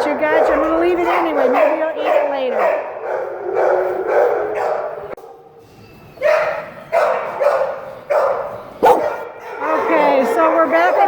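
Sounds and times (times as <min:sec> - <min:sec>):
dogs barking: 0:00.0 - 0:05.6, 0:06.2 - 0:11.0.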